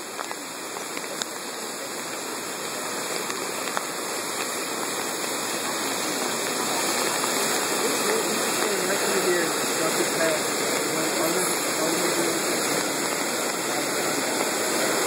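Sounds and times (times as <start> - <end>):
whitewater rushing: 0.0 - 15.0.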